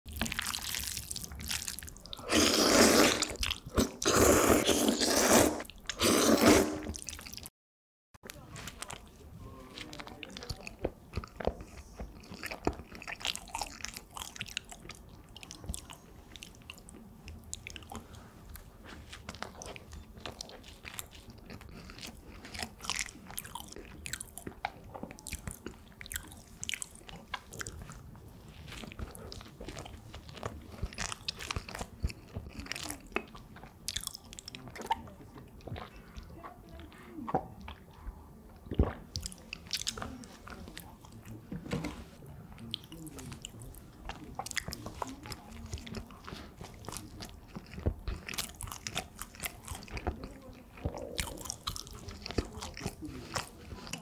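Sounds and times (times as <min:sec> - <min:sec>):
chewing soft bread: 0:00.1 - 0:07.5, 0:08.2 - 0:54.0.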